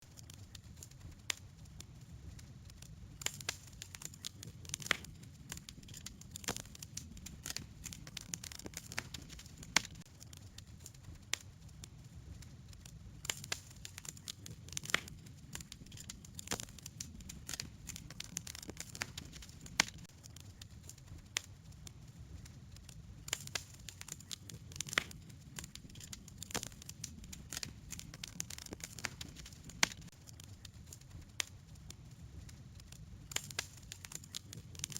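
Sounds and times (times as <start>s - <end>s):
campfire crackling and popping: 0.0s - 34.9s
low rumble of flames: 0.0s - 34.9s.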